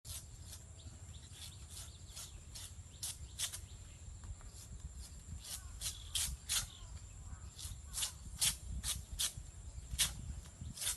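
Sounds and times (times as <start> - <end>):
blade scraping palm trunk: 0.1 - 3.7, 4.5 - 6.8, 7.6 - 10.9.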